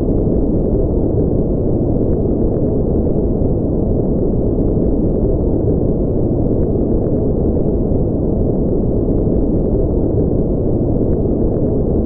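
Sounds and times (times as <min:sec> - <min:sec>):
deep muffled white noise: 0:00.0 - 0:12.0.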